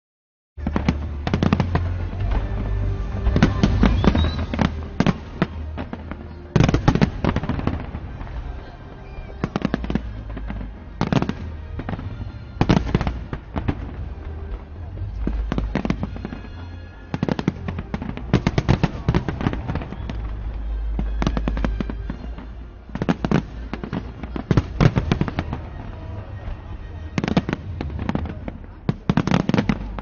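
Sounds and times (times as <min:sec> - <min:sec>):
crowd voices: 0:00.6 - 0:30.0
fireworks bangs and crackles: 0:00.6 - 0:30.0.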